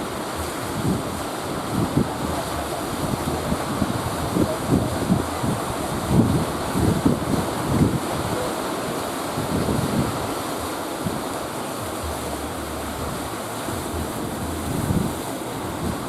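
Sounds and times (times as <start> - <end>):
sea surf breaking: 0.0 - 16.0
wind buffeting microphone: 0.0 - 16.0.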